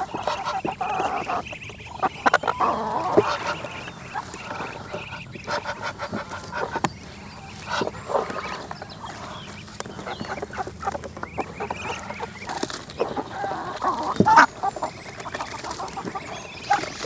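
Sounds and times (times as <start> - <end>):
chickens clucking: 0.0 - 17.0
hands mixing wet greens in tub: 0.0 - 17.0.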